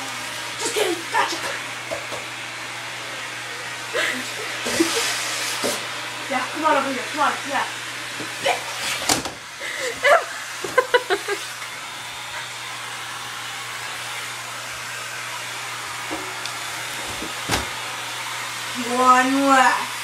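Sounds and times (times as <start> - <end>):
handheld vacuum cleaner running: 0.0 - 20.0.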